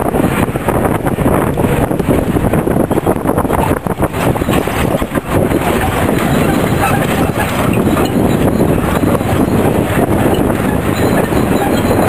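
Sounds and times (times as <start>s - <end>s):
road noise: 0.0s - 12.0s
vehicle engine: 0.0s - 12.0s.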